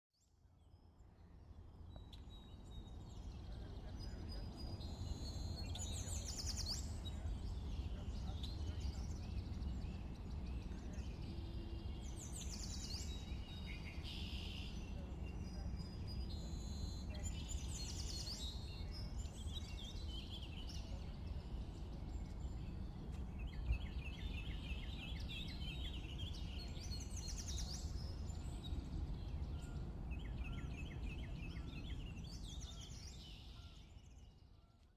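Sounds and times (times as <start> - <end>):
songbirds singing and chirping: 0.2 - 34.9.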